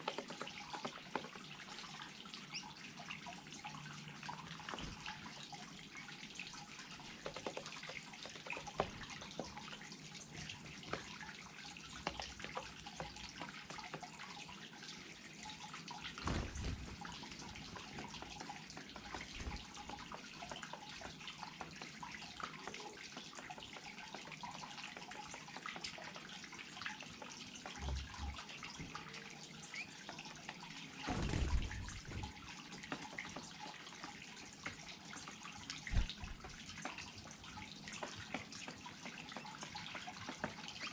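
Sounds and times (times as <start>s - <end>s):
water dripping and trickling: 0.0s - 40.9s.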